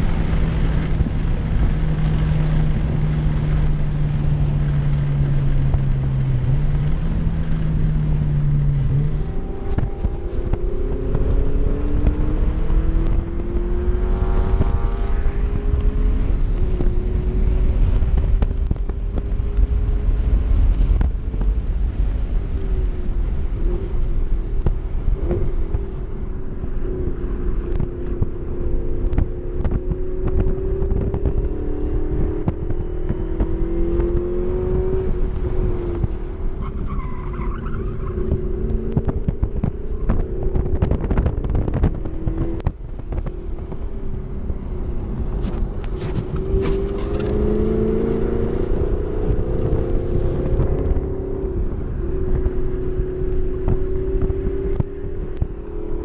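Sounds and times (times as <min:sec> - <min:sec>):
car engine accelerating hard: 0:00.0 - 0:56.0
wind noise: 0:00.0 - 0:56.0.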